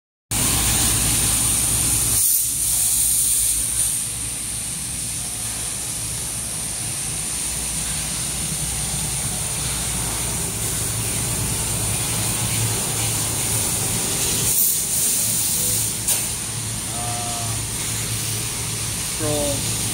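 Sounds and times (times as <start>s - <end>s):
laser cutting machine humming: 0.4s - 19.9s.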